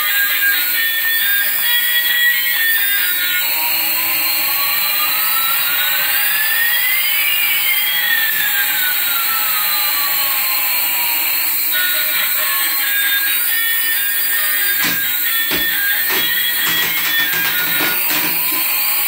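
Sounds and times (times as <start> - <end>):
motor whines: 0.0 - 19.0
toy helicopter rotors whirring: 0.0 - 19.0.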